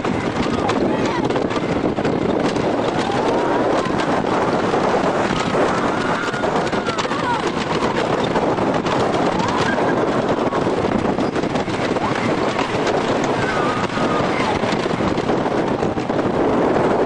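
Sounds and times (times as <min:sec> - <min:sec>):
roller coaster clattering on track: 0:00.0 - 0:17.0
wind rushing over microphone: 0:00.0 - 0:17.0.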